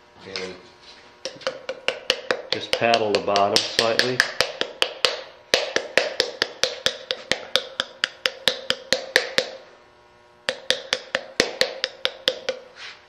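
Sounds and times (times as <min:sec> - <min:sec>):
paddle tapping wet clay: 0:01.2 - 0:09.6, 0:10.5 - 0:12.6.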